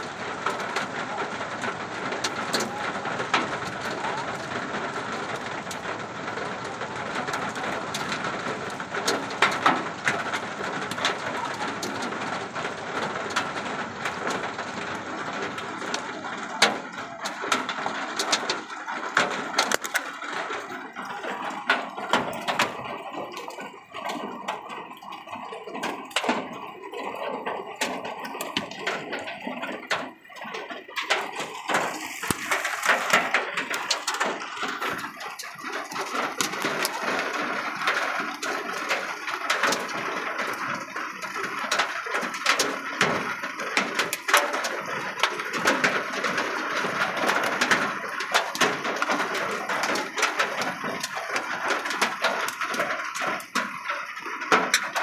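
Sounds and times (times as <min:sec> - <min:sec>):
heavy rain hissing: 0:00.0 - 0:54.5
hailstones cracking on hard surfaces: 0:00.0 - 0:55.0.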